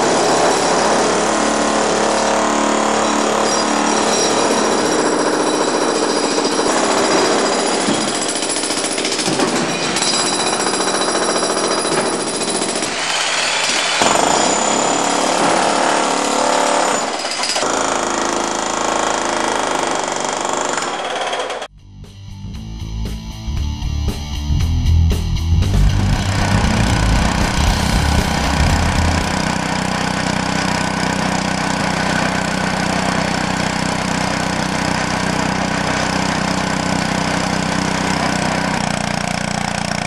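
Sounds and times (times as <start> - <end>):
hydraulic breaker hammering concrete: 0.0 - 21.7, 26.0 - 40.0.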